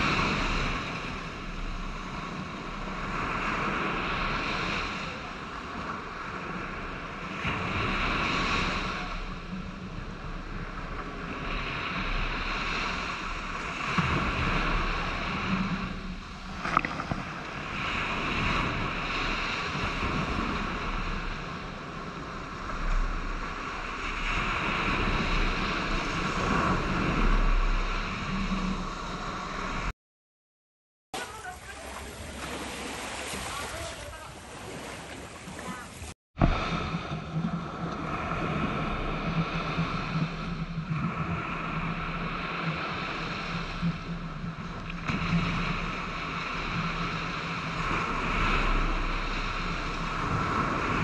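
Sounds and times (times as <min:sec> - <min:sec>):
surf washing up beach: 0:00.0 - 0:29.9, 0:31.2 - 0:51.0
wind rumbling on microphone: 0:00.0 - 0:29.9, 0:31.3 - 0:51.0.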